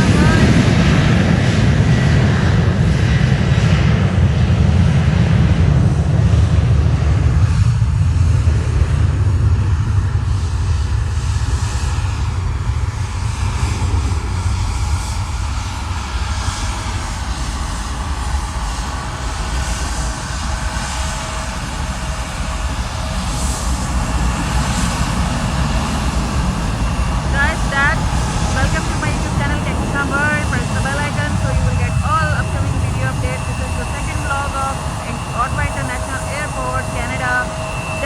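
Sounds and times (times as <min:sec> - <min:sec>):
airliner engines rumbling: 0:00.0 - 0:38.0.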